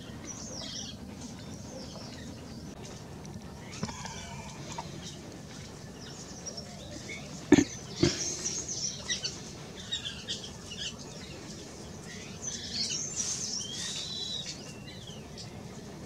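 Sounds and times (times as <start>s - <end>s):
birds chirping and whistling: 0.0s - 15.7s.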